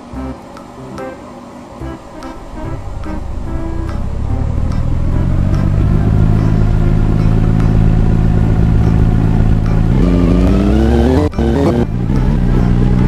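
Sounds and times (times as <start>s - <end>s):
engine running and revving: 1.8s - 13.0s.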